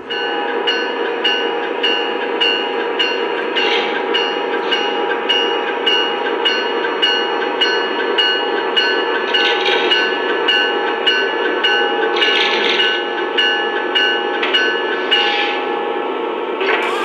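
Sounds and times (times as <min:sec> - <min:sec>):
model train bell ringing: 0:00.0 - 0:16.0, 0:16.6 - 0:17.0
model train running hum: 0:00.0 - 0:17.0.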